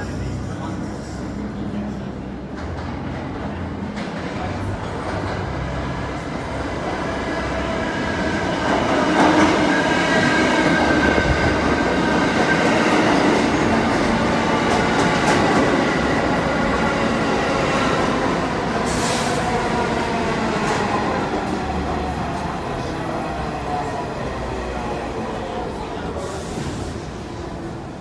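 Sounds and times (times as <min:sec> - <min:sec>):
rumble of train cars: 0:00.0 - 0:28.0.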